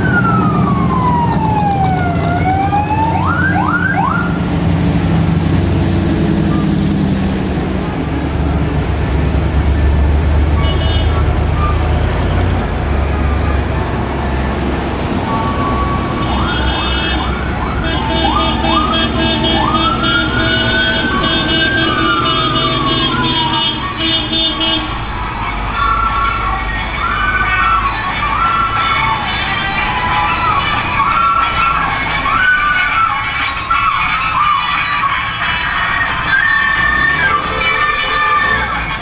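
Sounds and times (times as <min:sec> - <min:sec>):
low engine rumble: 0:00.0 - 0:37.6
siren whooping: 0:00.0 - 0:39.0.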